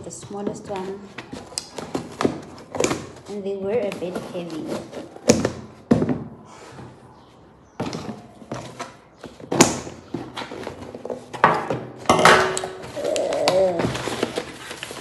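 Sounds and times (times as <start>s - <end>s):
cardboard and paper rustling: 0.0s - 6.9s, 7.8s - 12.0s, 12.6s - 15.0s.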